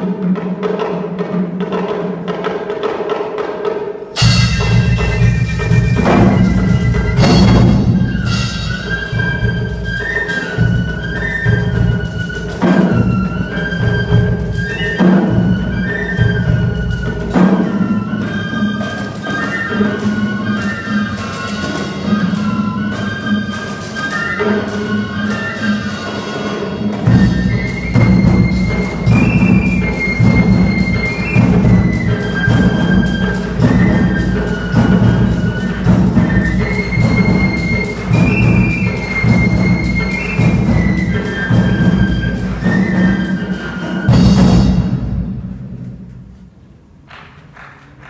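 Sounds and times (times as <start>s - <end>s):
brass and drum band playing: 0.0s - 47.3s.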